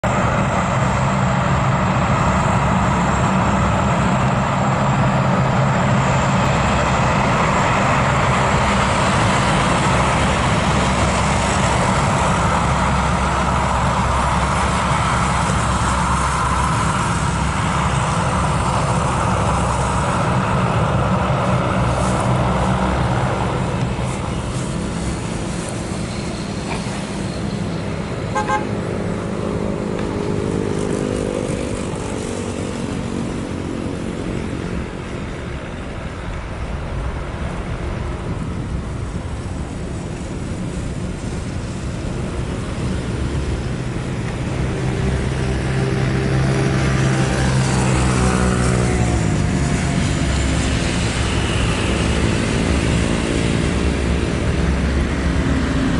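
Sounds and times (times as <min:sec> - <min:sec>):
jet engine rush: 0:00.0 - 0:55.9
turboprop engines droning: 0:00.0 - 0:55.9.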